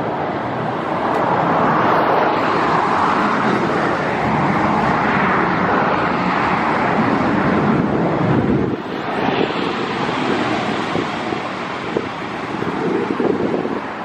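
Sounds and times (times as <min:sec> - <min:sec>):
jet engine rush: 0:00.0 - 0:14.0.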